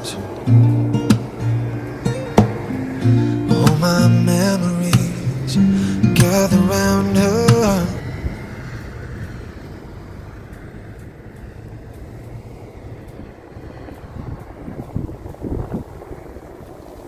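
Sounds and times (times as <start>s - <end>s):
car driving on snowy road: 0.0s - 17.0s.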